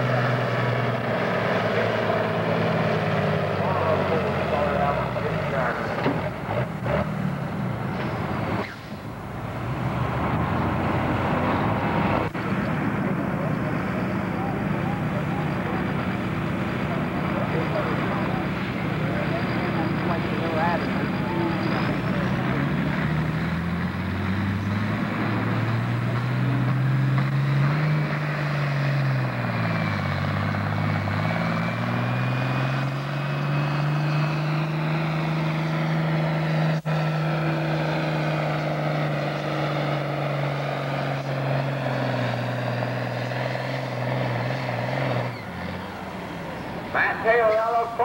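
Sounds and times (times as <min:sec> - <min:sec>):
tractor diesel engine running hard: 0:00.0 - 0:48.0.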